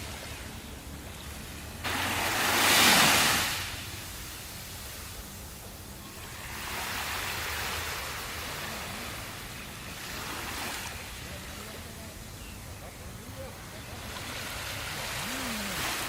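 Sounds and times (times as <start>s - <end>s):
sea waves breaking ashore: 0.0s - 16.0s.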